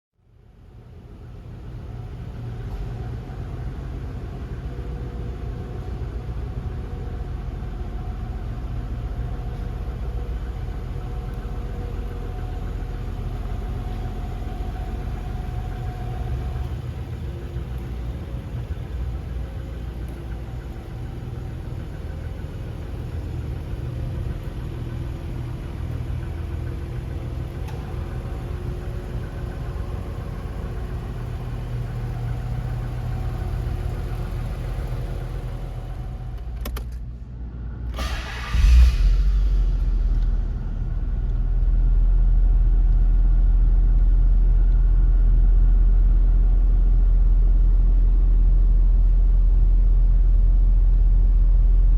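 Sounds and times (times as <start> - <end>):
car engine idling: 0.3 - 51.9.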